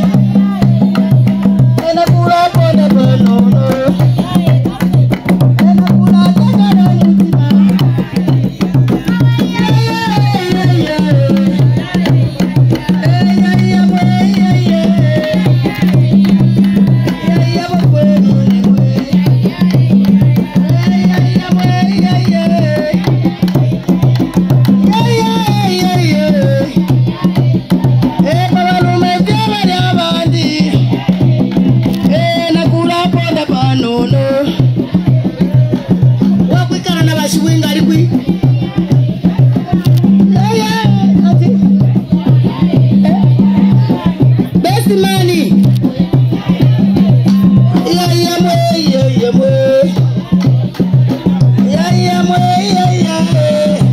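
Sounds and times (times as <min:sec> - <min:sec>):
hand drums playing: 0:00.0 - 0:53.9
voices singing: 0:00.0 - 0:53.9.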